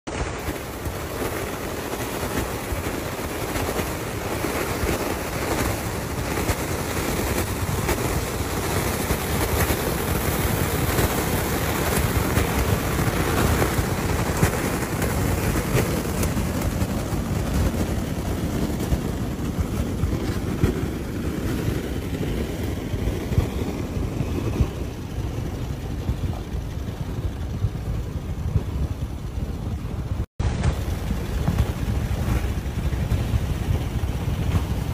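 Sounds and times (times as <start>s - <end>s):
engine running steadily: 0.1s - 34.9s
wind noise on microphone: 0.1s - 34.9s.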